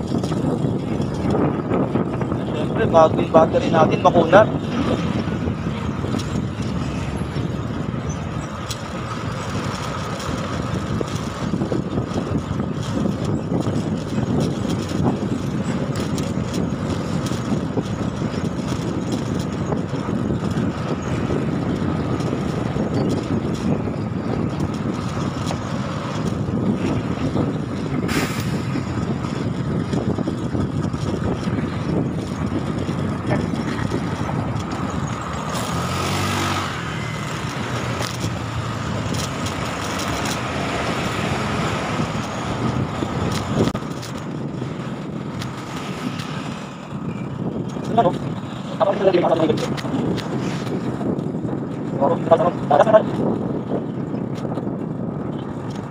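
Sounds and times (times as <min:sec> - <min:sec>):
road and traffic noise: 0:00.0 - 0:55.9.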